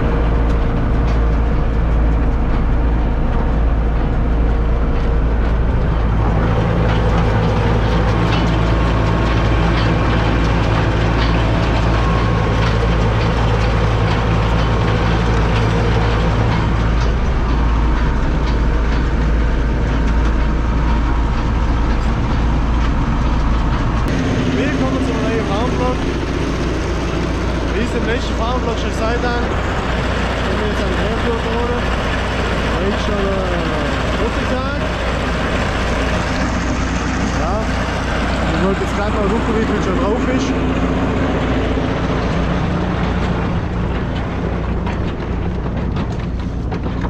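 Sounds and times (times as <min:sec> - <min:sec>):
rattling and clicking: 0:00.0 - 0:47.0
tractor engine running: 0:00.0 - 0:47.0.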